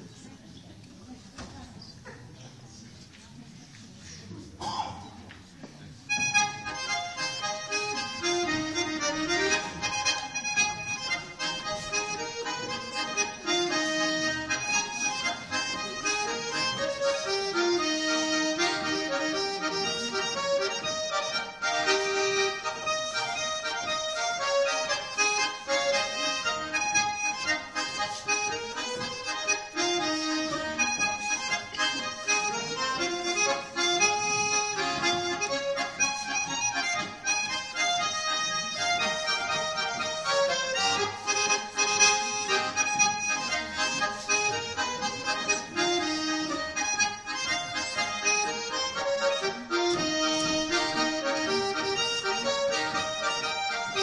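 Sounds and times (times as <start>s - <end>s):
accordion folk dance tune: 0.0s - 0.3s, 6.0s - 54.0s.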